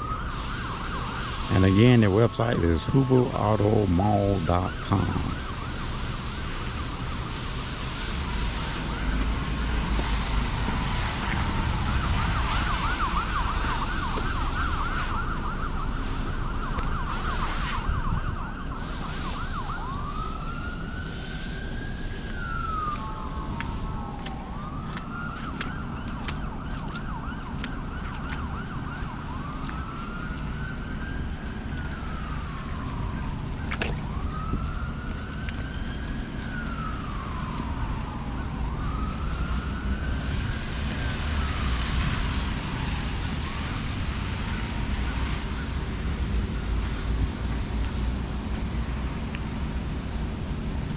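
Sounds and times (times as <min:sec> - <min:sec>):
emergency vehicle siren: 0:00.0 - 0:50.9
steady low rumble: 0:01.0 - 0:19.0, 0:19.7 - 0:50.9.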